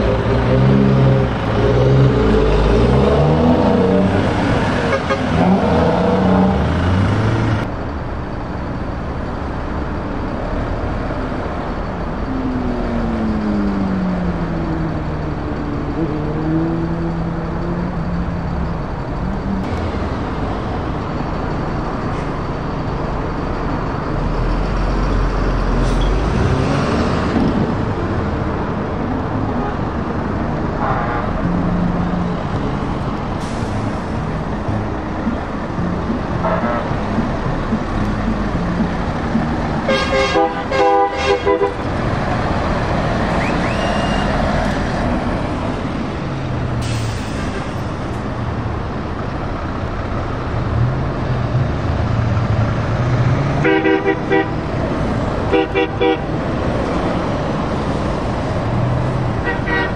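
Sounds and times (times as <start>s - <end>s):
road noise: 0.0s - 59.9s
truck diesel engines running: 0.0s - 59.9s.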